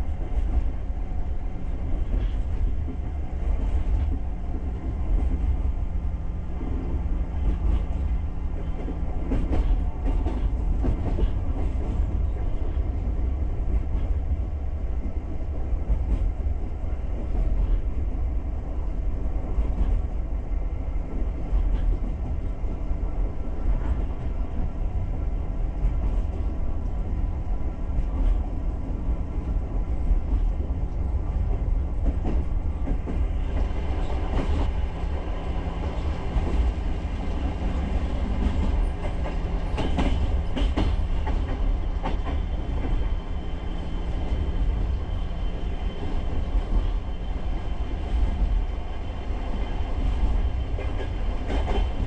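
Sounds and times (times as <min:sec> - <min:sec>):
wheels rumbling on rails: 0:00.0 - 0:52.0.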